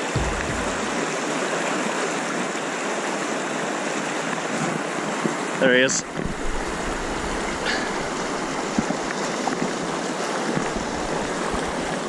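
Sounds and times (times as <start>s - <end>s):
river water rushing over boulders: 0.0s - 12.0s.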